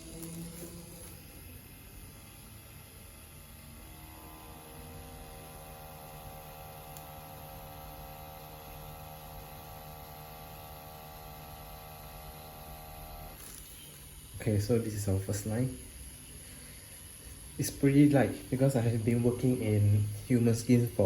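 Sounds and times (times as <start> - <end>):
tattoo pen motor hum: 0.0 - 21.0.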